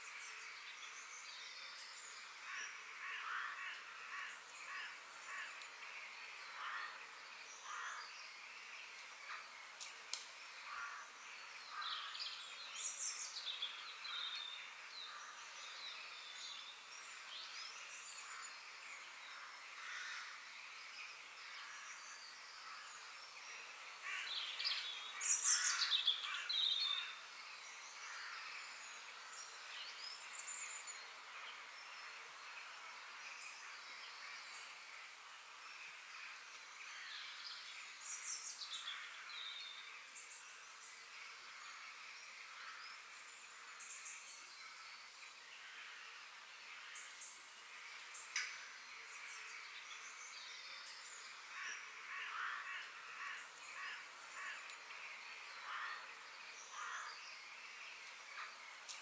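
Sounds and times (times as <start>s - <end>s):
birds calling and chirping: 0.0s - 59.0s
steady background hiss: 0.0s - 59.0s.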